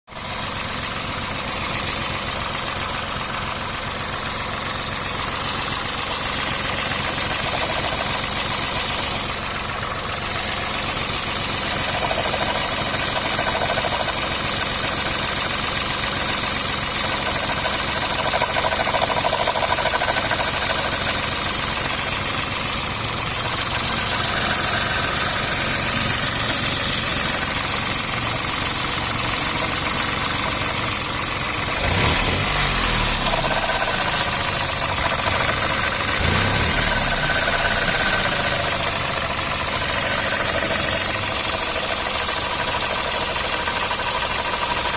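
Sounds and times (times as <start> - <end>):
car engine idling: 0.1 - 44.9
engine knocking: 0.1 - 44.9.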